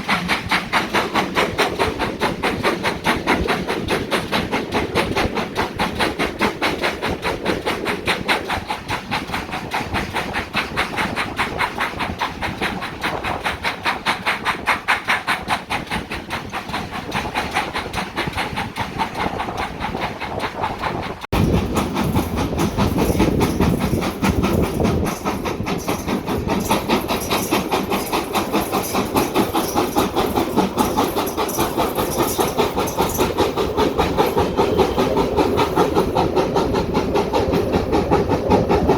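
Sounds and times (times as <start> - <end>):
steam locomotive running: 0.0 - 38.9.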